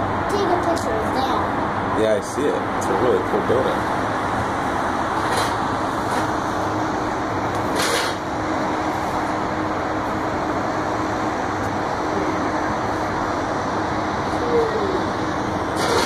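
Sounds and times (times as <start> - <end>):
distant city traffic roar: 0.0 - 16.0.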